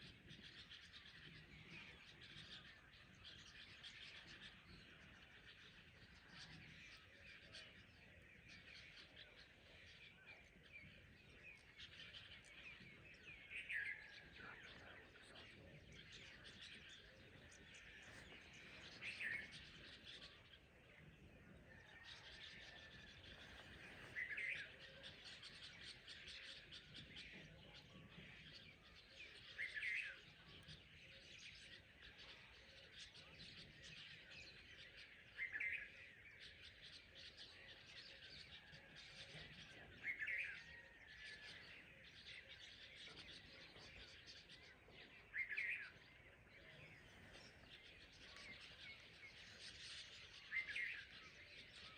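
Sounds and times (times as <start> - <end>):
birds chirping: 0.1 - 51.9.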